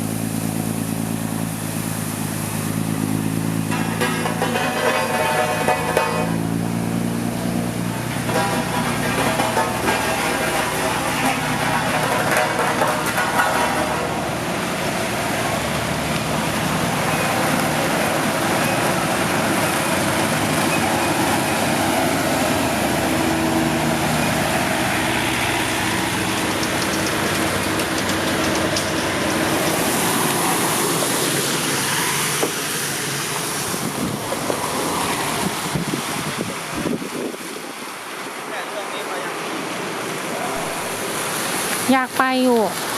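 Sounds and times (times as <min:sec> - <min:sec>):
construction machinery diesel drone: 0:00.0 - 0:37.0.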